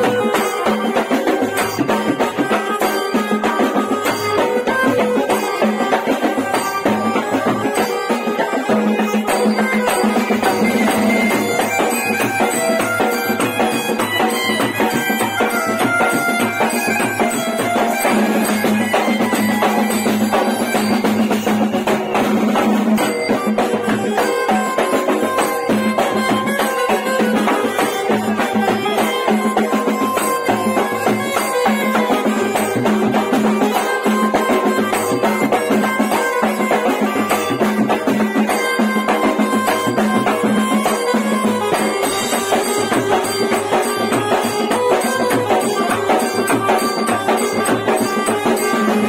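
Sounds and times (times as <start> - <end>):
fast drumming: 0.0 - 49.0.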